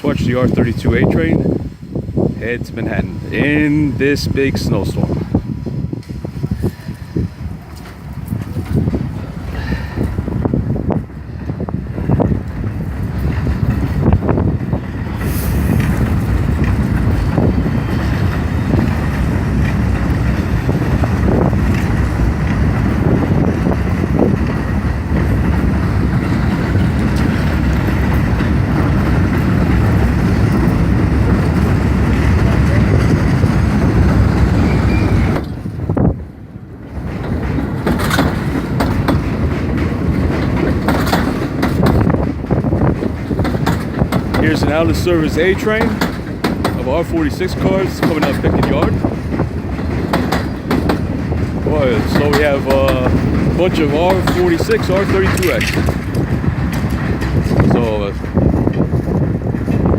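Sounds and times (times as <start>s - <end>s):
subway train rumbling: 0.0s - 59.9s
train wheel clicks over rail joints: 7.7s - 36.1s, 36.8s - 59.9s.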